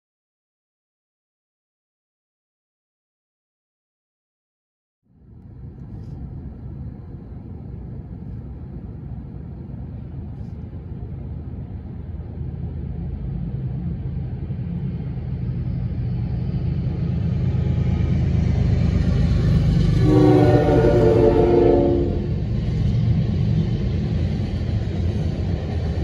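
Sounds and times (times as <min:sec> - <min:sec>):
diesel locomotive rumble: 0:05.2 - 0:26.0.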